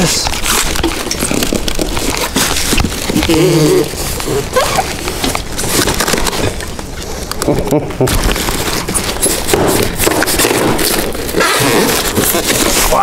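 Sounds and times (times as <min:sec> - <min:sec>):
plastic and foam packaging rustling: 0:00.0 - 0:13.0.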